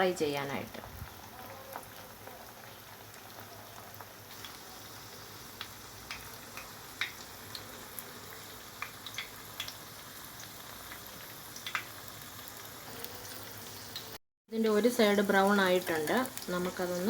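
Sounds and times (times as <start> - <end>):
chicken frying in oil: 0.0 - 17.0
oil popping and crackling: 0.4 - 14.2, 15.1 - 17.0.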